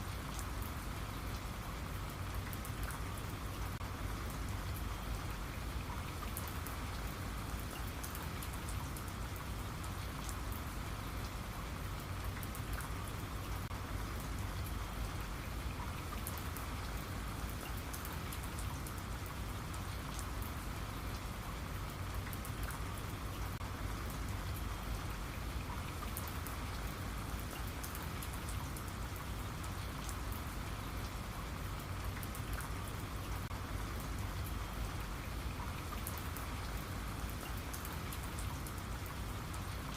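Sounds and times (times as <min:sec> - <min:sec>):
steady rain hiss: 0:00.0 - 0:39.9
raindrop ticks: 0:00.1 - 0:39.9.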